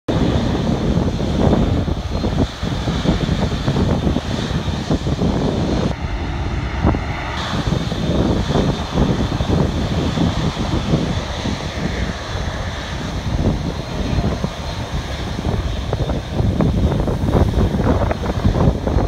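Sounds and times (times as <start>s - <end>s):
jet engines at low thrust: 0.1s - 19.0s
wind rumble on microphone: 0.1s - 19.0s.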